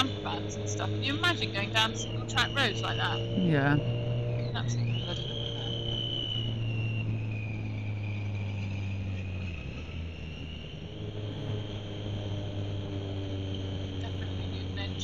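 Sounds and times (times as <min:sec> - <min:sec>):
motorcycle engine running: 0:00.0 - 0:15.0
steady high whistle: 0:00.0 - 0:15.0.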